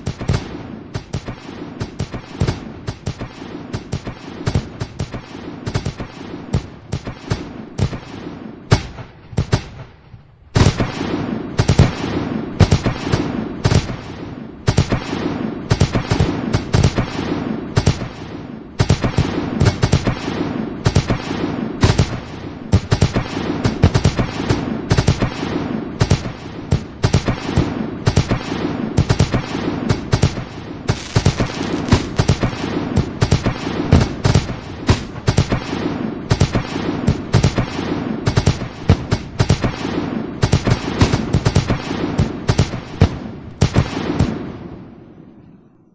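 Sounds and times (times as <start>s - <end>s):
fireworks bangs: 0.0s - 45.4s.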